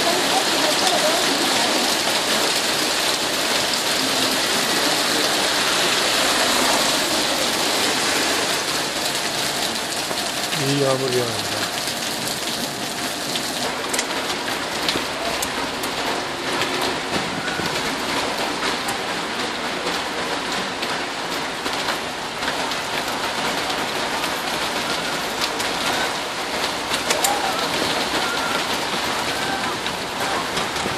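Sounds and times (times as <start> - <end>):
hailstones ticking on paving: 0.0 - 30.9
rain hissing: 0.0 - 30.9.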